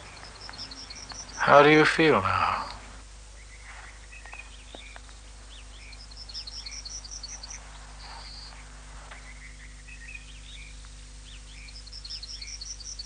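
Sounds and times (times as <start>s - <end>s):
low electrical hum: 0.0s - 13.0s
small birds chirping: 0.0s - 13.0s.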